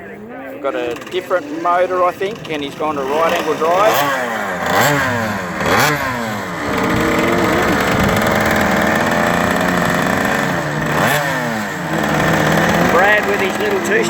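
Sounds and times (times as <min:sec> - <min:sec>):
lawnmower engine revving: 0:00.6 - 0:14.0.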